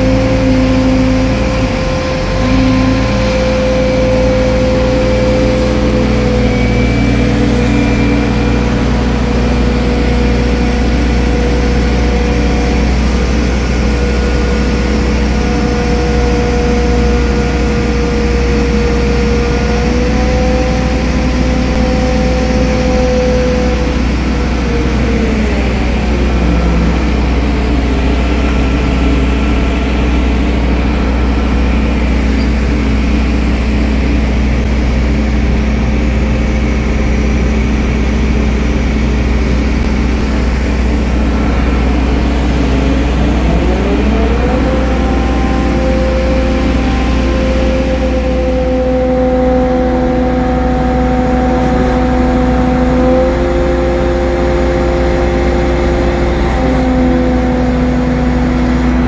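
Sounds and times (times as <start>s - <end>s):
crane engine droning: 0.0s - 59.0s
thin whine: 0.0s - 59.0s.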